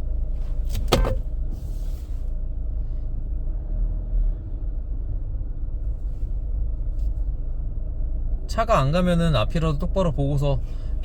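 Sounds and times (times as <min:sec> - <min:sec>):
engine and road rumble in car: 0:00.0 - 0:11.0.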